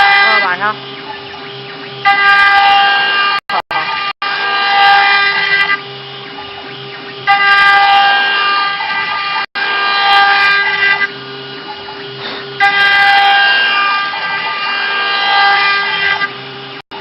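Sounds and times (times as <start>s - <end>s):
router spindle whining: 0.0s - 17.0s.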